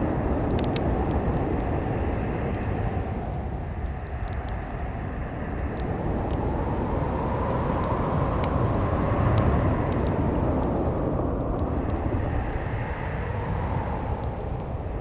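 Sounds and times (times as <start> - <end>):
snowstorm wind rumbling: 0.0 - 15.0
wood fire crackling: 0.0 - 15.0.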